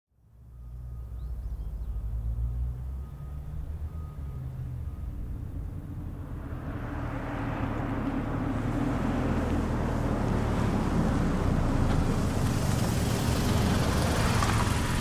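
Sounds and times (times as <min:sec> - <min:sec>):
car engine and tyre noise: 0:00.2 - 0:15.0.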